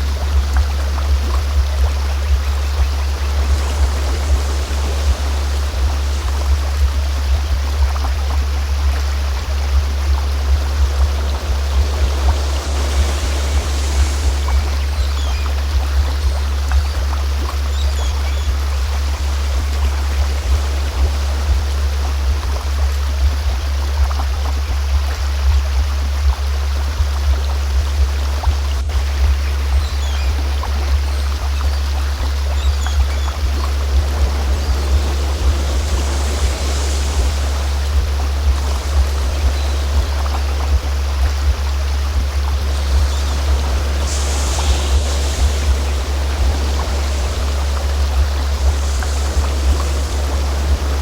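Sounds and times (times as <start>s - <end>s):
deep drone tone: 0.0s - 51.0s
stream flowing: 0.0s - 51.0s.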